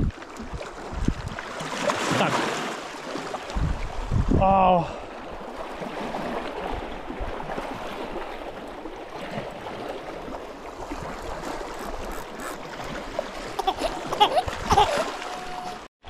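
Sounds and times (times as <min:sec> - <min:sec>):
sea water washing against rocks: 0:00.0 - 0:04.4, 0:05.0 - 0:15.9.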